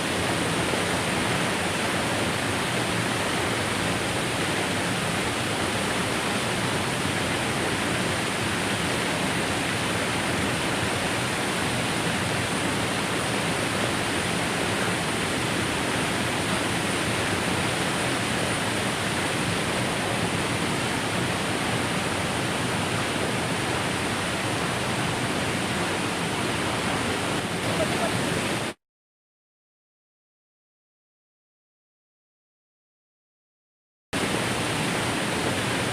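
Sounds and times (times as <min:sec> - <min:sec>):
waterfall roaring: 0:00.0 - 0:28.8, 0:34.2 - 0:35.9.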